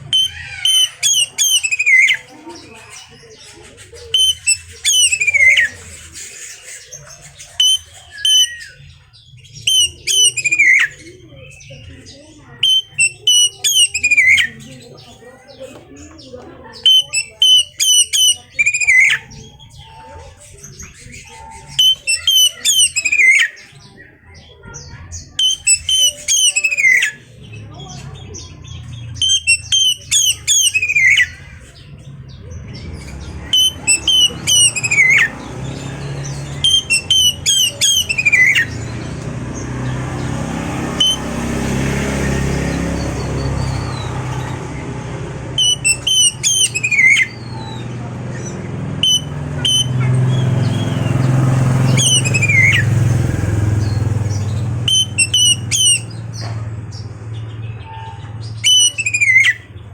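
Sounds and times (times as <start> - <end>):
bird singing whistled notes: 0.0 - 3.2, 4.0 - 14.8, 16.8 - 59.8.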